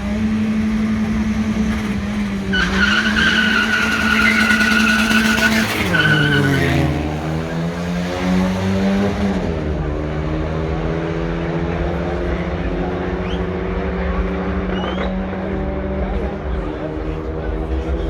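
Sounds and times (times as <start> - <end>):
car engine running loud: 0.0 - 18.0.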